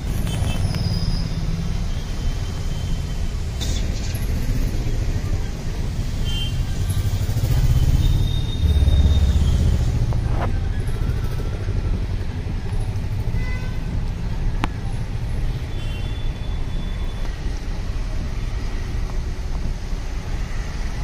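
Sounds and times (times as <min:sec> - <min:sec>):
outdoor background noise: 0:00.0 - 0:21.0
vehicle engine rumble: 0:00.0 - 0:21.0.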